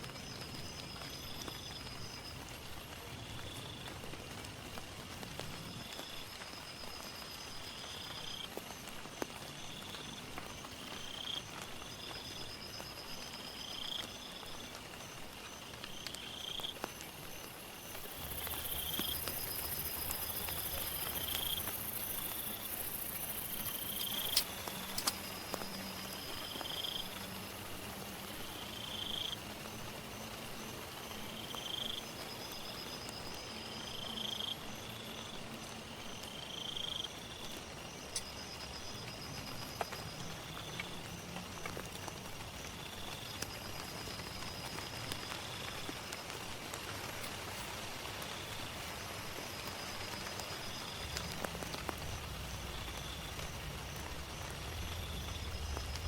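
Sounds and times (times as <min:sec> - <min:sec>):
insects chirping: 0:00.0 - 0:04.4, 0:05.4 - 0:56.0
low droning insect calls: 0:00.0 - 0:04.4, 0:05.2 - 0:56.0
fast pulsed insect call: 0:11.1 - 0:56.0.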